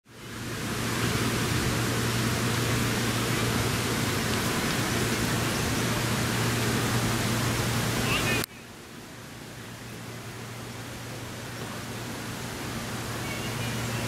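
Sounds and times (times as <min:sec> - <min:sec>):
outdoor hiss: 0:00.1 - 0:14.0.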